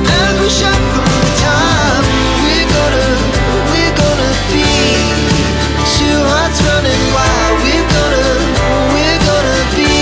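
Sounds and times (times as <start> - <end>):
pop song with steady beat: 0.0 - 10.0.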